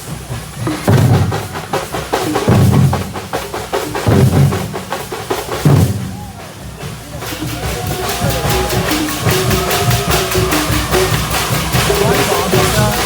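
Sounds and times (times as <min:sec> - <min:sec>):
dense drum strikes: 0:00.0 - 0:13.0.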